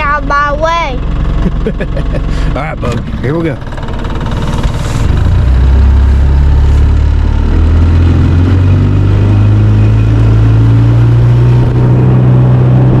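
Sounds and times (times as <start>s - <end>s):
boat motor speeding up: 0.0s - 13.0s.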